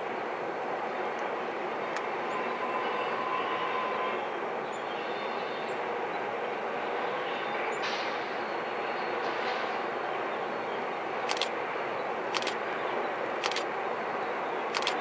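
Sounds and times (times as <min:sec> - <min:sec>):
locomotives and wheels rumbling: 0:00.0 - 0:15.0.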